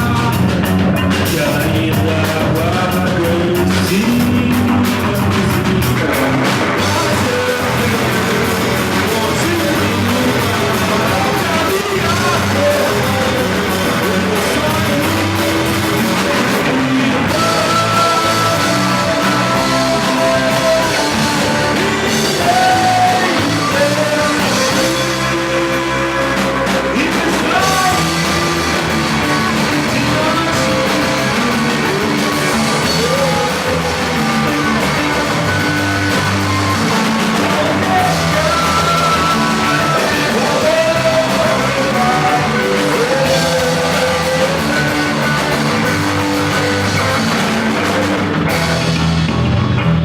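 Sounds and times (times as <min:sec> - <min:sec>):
person singing: 0:00.0 - 0:48.2
rock band playing: 0:00.0 - 0:50.0.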